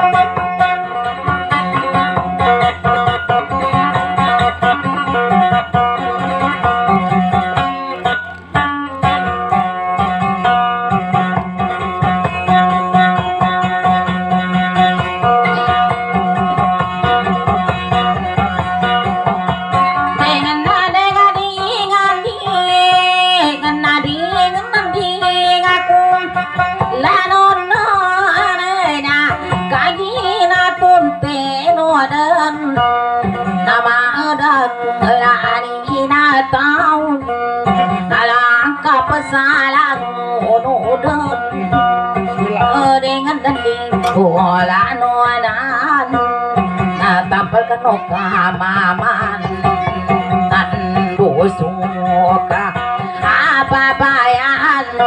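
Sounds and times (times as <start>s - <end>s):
strummed acoustic guitar: 0.0s - 55.0s
woman singing: 9.2s - 55.0s.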